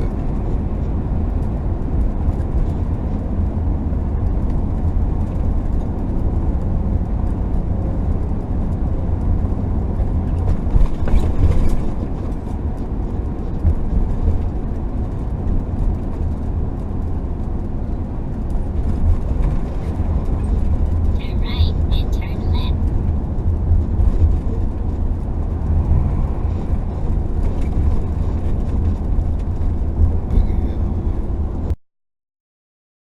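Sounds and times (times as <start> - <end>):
vehicle engine and tyre rumble: 0.0 - 31.8.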